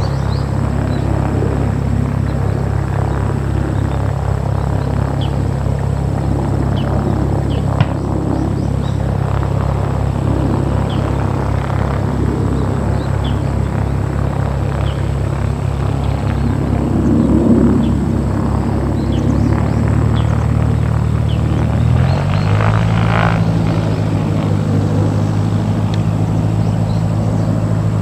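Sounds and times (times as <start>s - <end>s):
propeller aircraft engine running: 0.0s - 28.0s.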